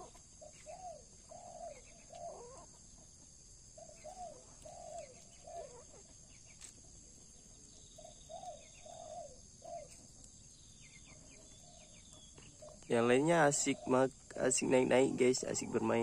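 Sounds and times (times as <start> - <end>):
bird cooing: 0.0 - 2.8, 3.8 - 6.3, 7.4 - 10.1, 11.1 - 16.0.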